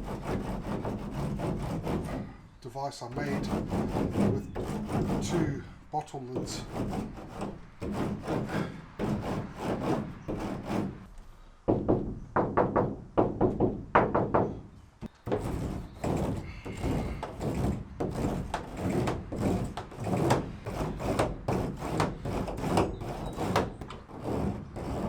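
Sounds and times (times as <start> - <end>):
roller rubbing on metal panel: 0.0 - 11.1, 15.0 - 25.0.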